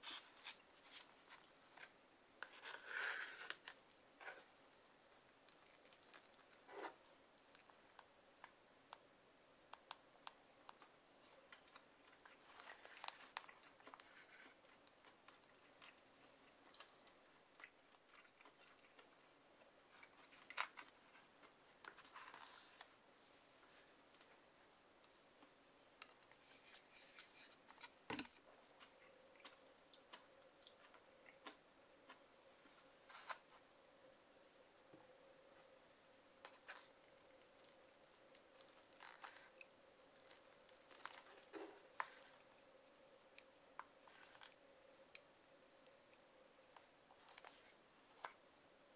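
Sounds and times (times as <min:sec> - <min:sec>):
soft chewing: 0:00.0 - 0:48.9.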